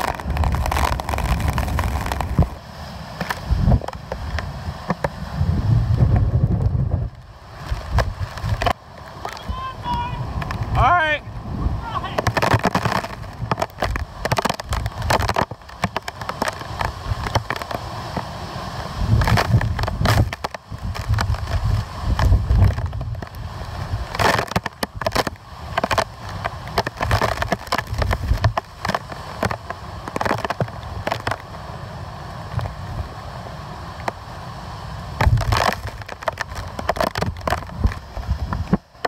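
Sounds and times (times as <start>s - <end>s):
strong wind gusting on microphone: 0.0s - 31.4s, 34.7s - 38.9s.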